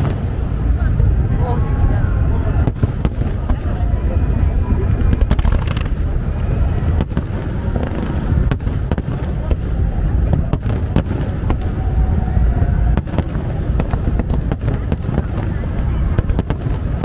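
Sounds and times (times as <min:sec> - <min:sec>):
fireworks bangs and crackles: 0:00.0 - 0:17.0
fireworks rumble: 0:00.0 - 0:17.0.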